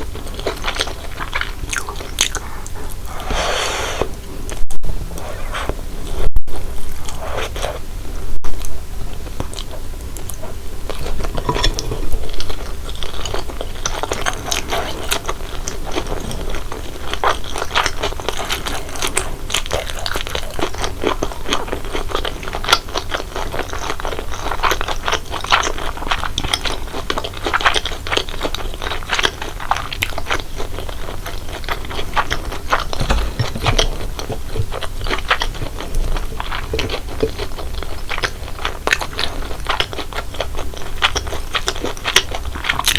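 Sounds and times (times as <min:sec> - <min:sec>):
chewing crunchy noodles: 0:00.0 - 0:03.3, 0:08.6 - 0:42.9.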